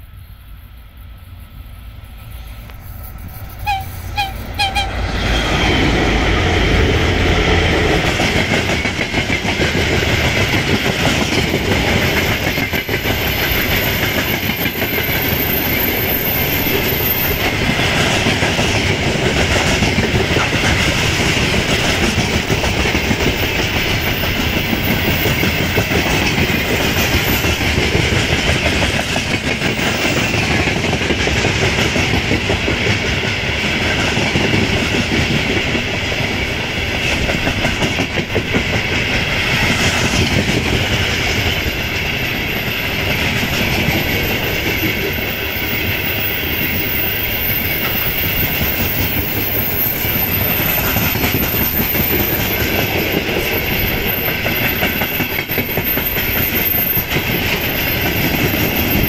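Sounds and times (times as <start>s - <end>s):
train rumble: 0.0s - 59.0s
wheels clattering on rails: 2.6s - 59.0s.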